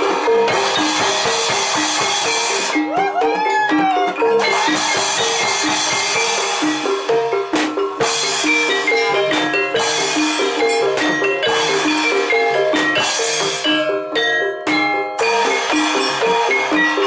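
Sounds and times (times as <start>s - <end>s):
drumming: 0.0s - 17.0s
metallophones struck with mallets: 0.0s - 17.0s.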